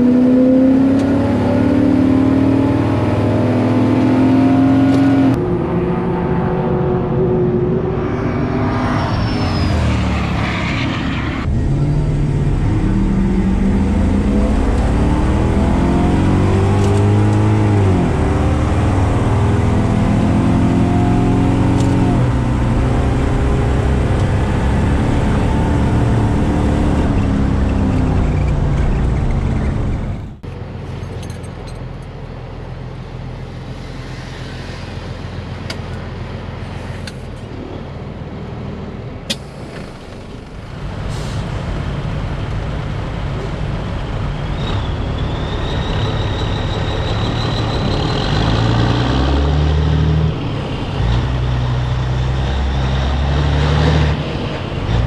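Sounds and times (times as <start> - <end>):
high engine whine: 0.0 - 55.0.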